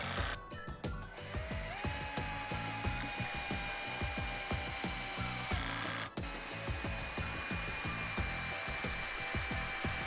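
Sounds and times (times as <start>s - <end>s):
power drill ratcheting: 0.0s - 0.4s, 1.3s - 10.0s.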